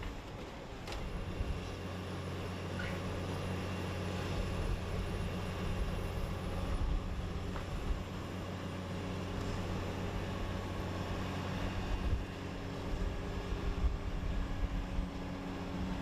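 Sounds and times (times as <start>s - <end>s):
heavy machinery droning: 0.0s - 16.0s.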